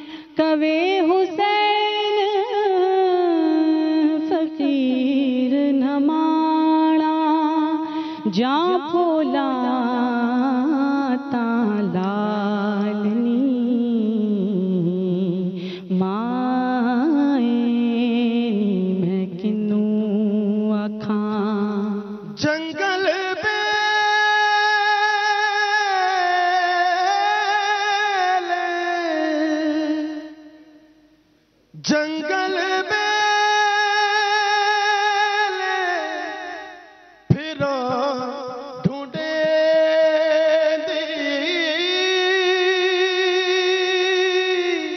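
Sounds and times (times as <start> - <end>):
woman singing devotional song: 0.0 - 31.0, 31.8 - 44.9.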